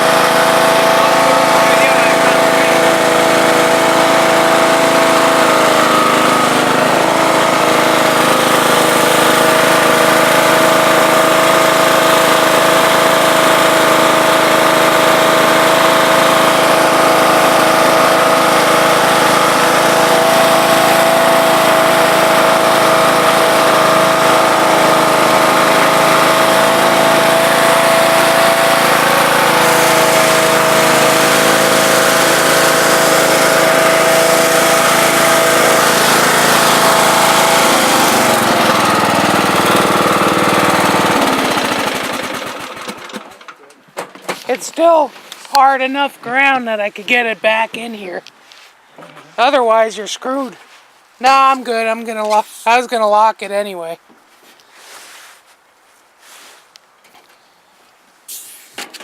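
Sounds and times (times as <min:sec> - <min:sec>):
lawn tractor engine running: 0:00.0 - 0:47.9.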